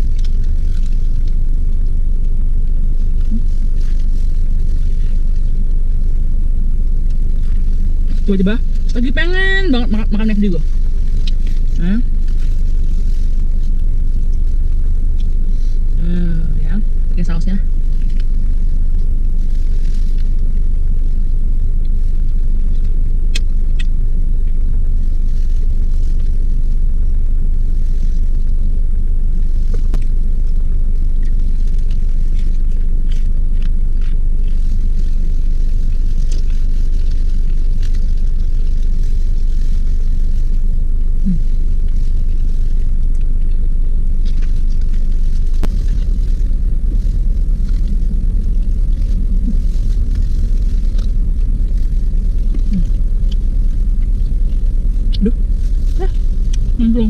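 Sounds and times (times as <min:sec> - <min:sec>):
car idling rumble: 0:00.0 - 0:57.0.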